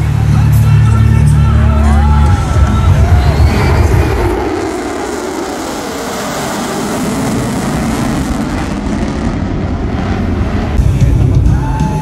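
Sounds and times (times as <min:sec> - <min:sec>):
fighter jet afterburner roar: 0:01.6 - 0:12.0.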